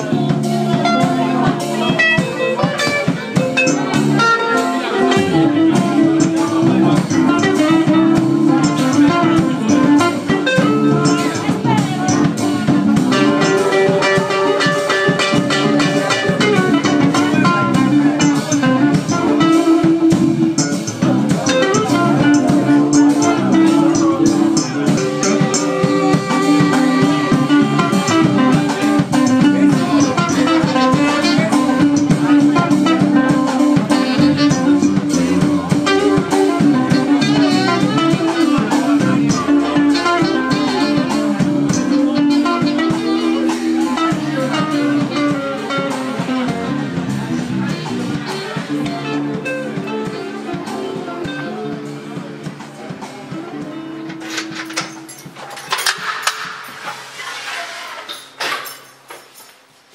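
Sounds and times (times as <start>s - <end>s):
live band playing: 0.0s - 59.4s.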